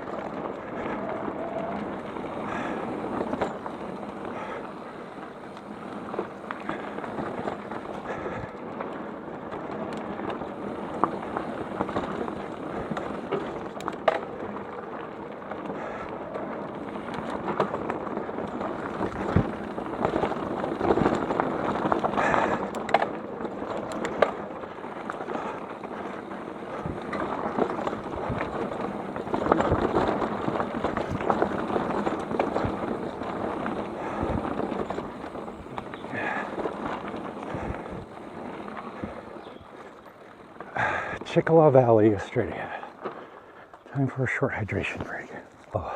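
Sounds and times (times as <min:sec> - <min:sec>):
bike rattling over rocks: 0:00.0 - 0:45.9
bike tyres rolling on dirt: 0:00.0 - 0:45.9.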